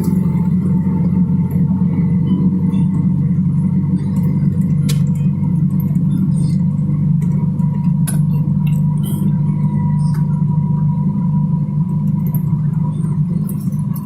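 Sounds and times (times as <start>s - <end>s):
faint whines: 0.0s - 14.0s
low engine drone: 0.0s - 14.0s.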